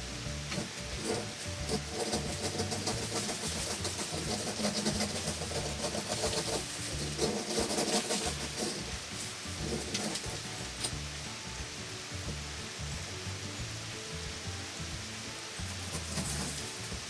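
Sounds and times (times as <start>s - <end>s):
heavy rain patter: 0.0s - 17.0s.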